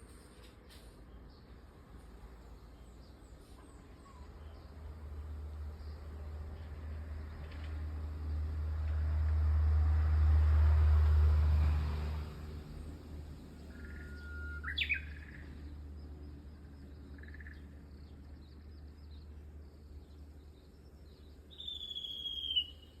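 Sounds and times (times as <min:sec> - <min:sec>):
bush warbler singing: 0:00.0 - 0:08.5, 0:12.6 - 0:23.0
low rumble with hiss: 0:00.0 - 0:23.0.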